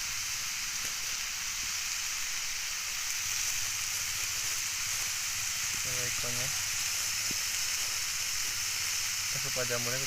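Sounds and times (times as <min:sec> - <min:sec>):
faint crackles: 0:00.0 - 0:10.0
mushrooms sizzling in oil: 0:00.0 - 0:10.0.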